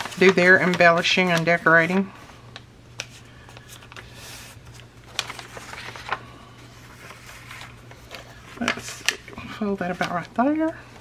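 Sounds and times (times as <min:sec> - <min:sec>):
paper rustling: 0:00.0 - 0:11.0
steady low hum: 0:00.0 - 0:11.0.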